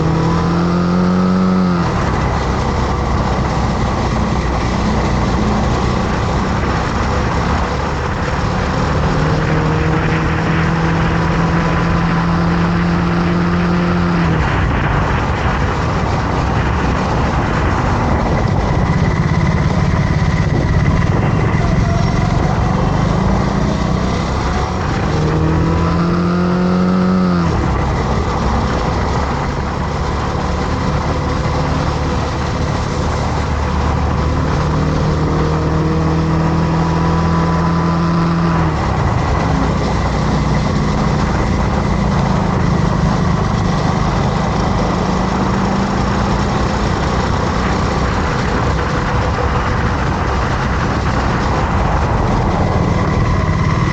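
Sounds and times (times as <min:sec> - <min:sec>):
motorcycle engine running: 0:00.0 - 0:53.9
wind and road noise: 0:00.0 - 0:53.9.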